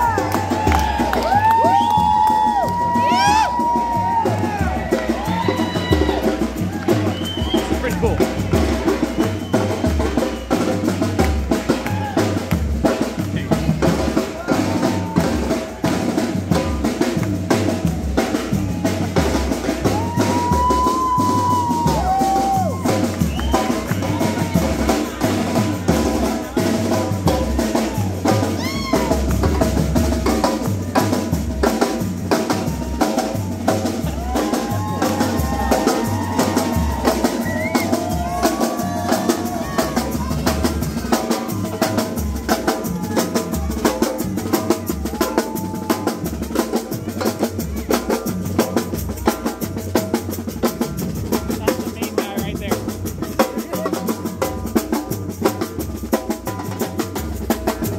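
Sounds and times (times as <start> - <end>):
bass drum beats: 0.0 - 57.9
snare drums playing fast: 0.0 - 57.9.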